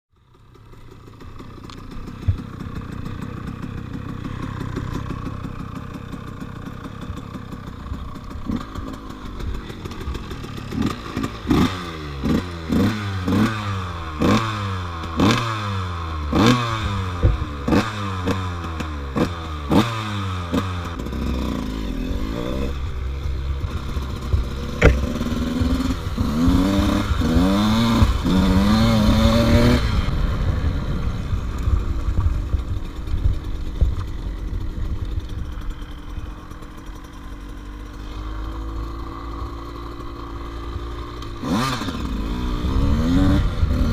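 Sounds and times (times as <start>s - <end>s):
dirt bike engine revving: 0.2s - 43.9s.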